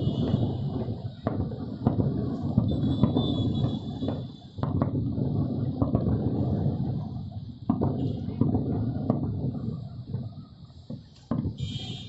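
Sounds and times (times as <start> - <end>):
rumble of firework booms: 0.0 - 12.0
sharp firework cracks: 0.0 - 12.0.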